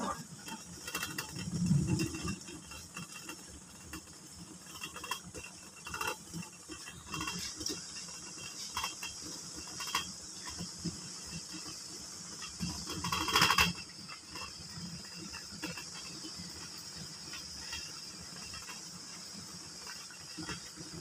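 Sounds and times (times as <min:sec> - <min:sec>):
boiling water hissing: 0:00.0 - 0:21.0
light ticks and clinks: 0:00.0 - 0:21.0.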